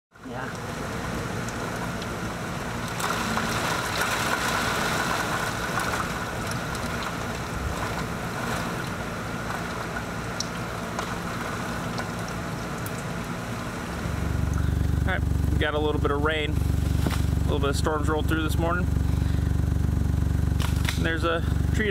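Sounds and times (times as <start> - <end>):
heavy rain pouring: 0.1 - 21.9
low steady hum: 0.1 - 21.9.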